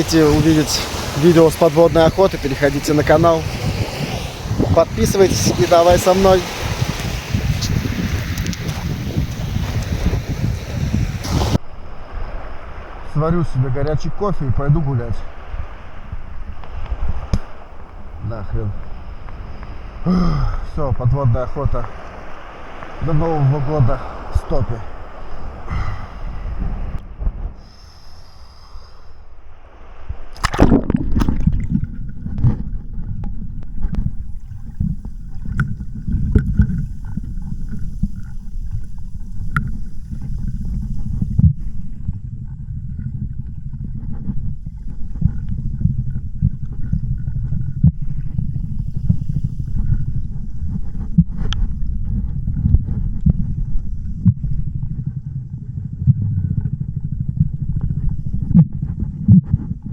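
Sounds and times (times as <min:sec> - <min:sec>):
strong wind buffeting microphone: 0:00.0 - 0:59.9.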